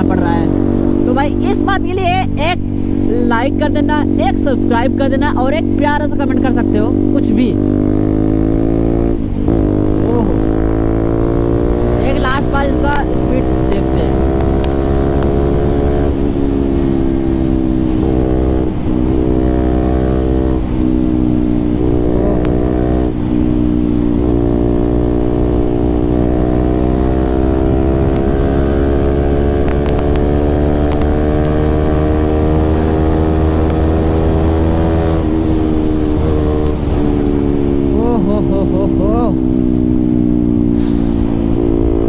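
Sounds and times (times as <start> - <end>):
motorcycle engine running hard: 0.0 - 42.0.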